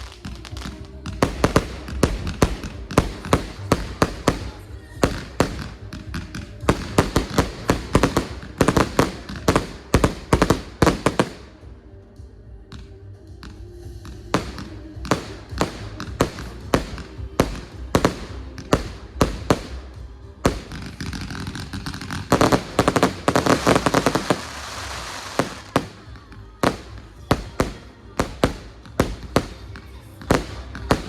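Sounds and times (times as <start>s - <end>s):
fireworks bangs: 0.0s - 11.7s, 14.1s - 31.0s
fireworks crackling: 0.0s - 11.8s, 13.9s - 31.0s
background music: 0.0s - 31.0s.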